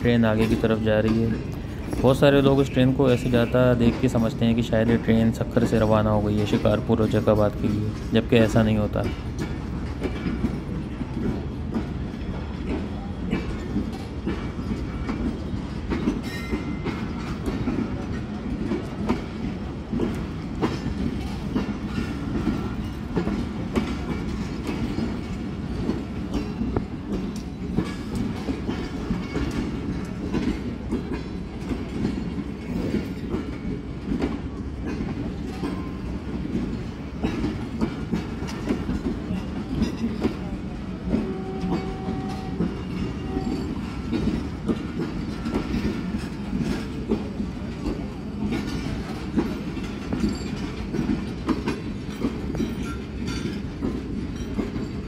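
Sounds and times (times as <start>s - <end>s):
train low rumble: 0.0s - 55.0s
train wheels clicking over rail joints: 0.0s - 55.0s.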